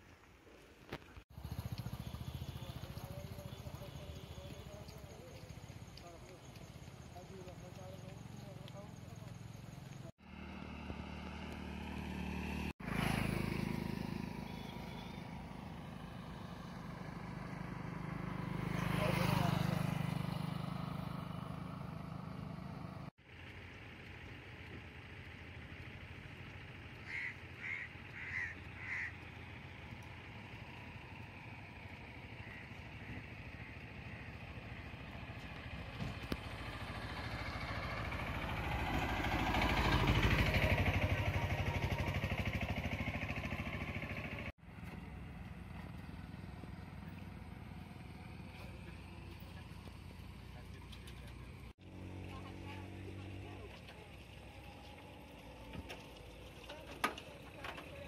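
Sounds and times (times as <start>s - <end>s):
motorcycle engine running: 1.3s - 58.0s.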